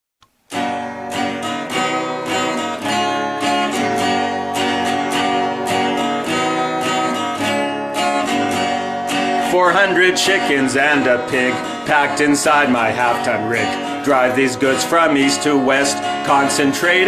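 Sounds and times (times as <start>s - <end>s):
acoustic guitar strumming: 0.3s - 17.0s.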